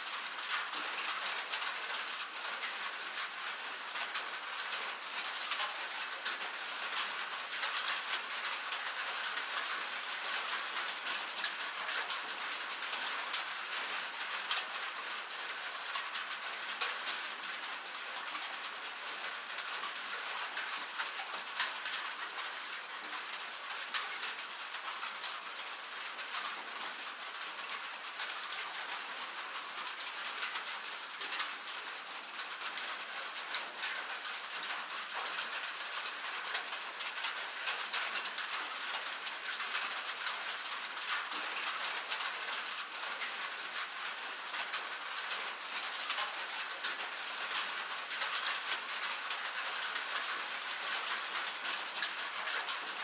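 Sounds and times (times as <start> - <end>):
rain on a metal roof: 0.0 - 53.0.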